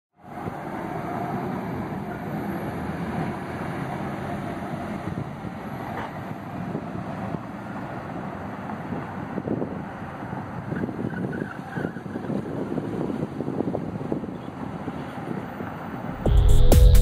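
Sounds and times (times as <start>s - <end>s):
bus diesel engine pulling away: 0.2s - 17.0s.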